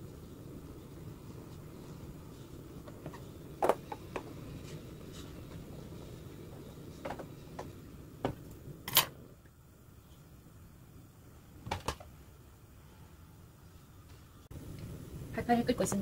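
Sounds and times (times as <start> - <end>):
gas stove burning: 0.0 - 16.0.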